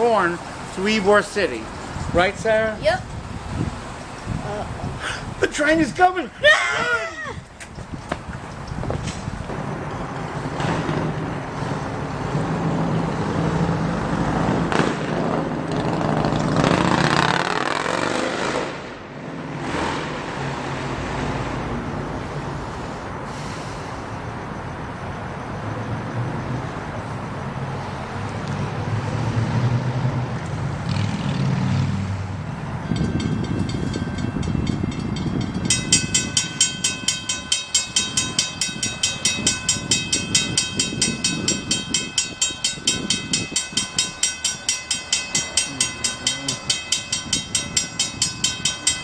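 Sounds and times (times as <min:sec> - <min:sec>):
diesel train rumbling: 0:00.0 - 0:49.0.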